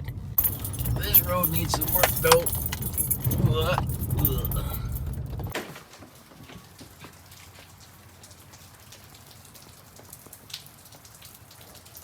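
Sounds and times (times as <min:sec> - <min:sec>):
light rain patter: 0:00.0 - 0:12.0.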